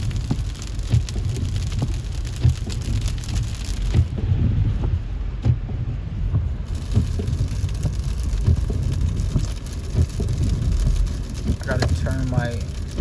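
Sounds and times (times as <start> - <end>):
car road rumble: 0.0 - 13.0
light ticks and taps: 0.1 - 13.0.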